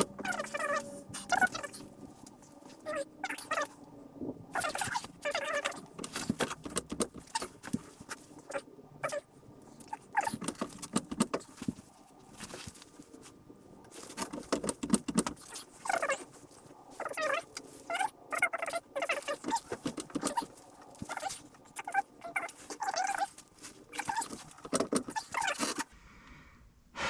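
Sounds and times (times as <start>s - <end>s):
short squeaks: 0.0s - 3.8s, 4.5s - 13.0s, 13.9s - 25.9s.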